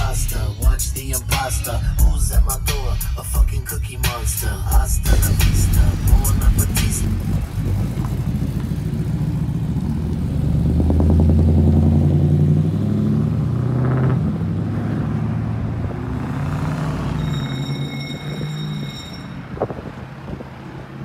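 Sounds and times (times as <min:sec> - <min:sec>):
truck engine revving: 0:00.0 - 0:18.8.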